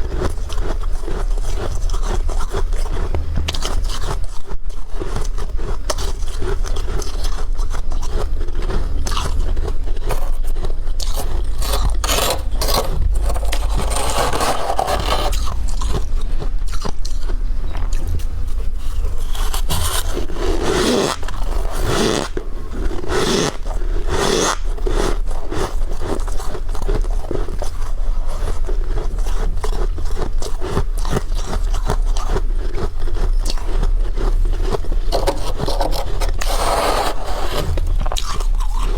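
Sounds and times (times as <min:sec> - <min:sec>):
frost being scraped: 0:00.0 - 0:38.9
steady low hum: 0:00.0 - 0:38.9.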